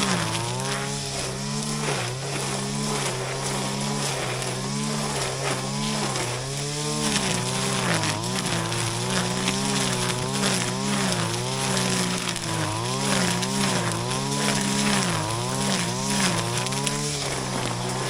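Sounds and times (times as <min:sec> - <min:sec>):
brush cutter engine bogging: 0:00.0 - 0:18.0.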